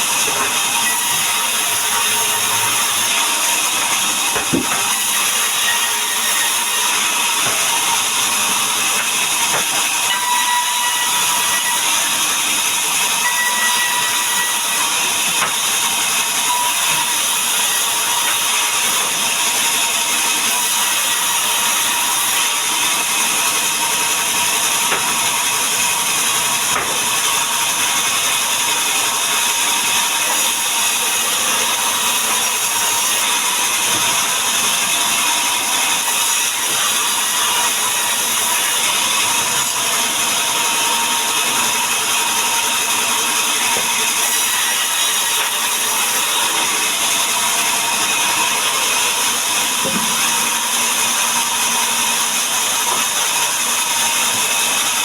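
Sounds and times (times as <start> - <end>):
power saw cutting wood: 0.0 - 55.0.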